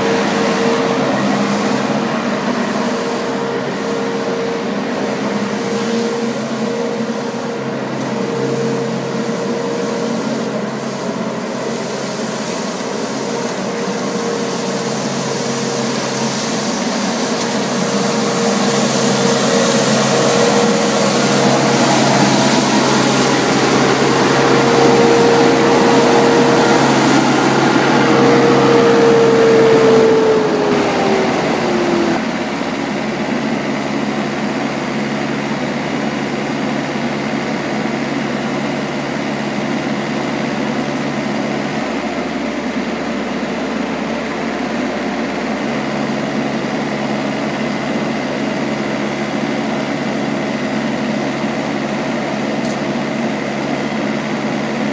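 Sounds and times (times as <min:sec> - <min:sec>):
street sweeper engine running: 0:00.0 - 0:54.9
street sweeper whine: 0:00.0 - 0:54.9.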